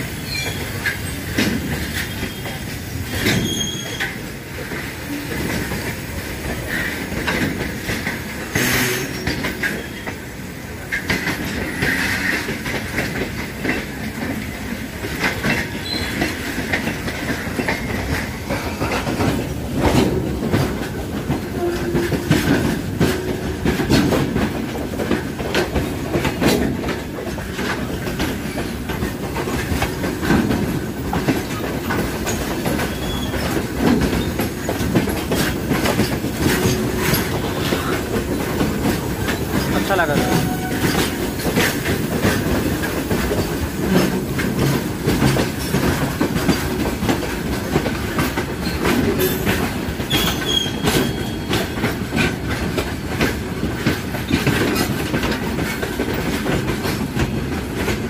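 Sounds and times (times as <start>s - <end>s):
clickety-clack of rail joints: 0.0s - 58.0s
rumble of train wheels on rails: 0.0s - 58.0s.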